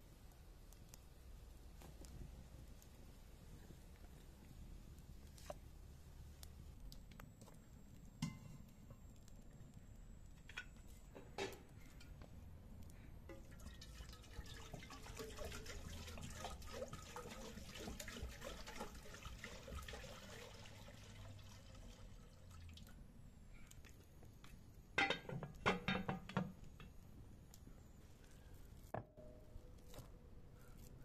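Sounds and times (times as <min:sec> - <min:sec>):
liquid bubbling in a pot: 0:00.0 - 0:26.9.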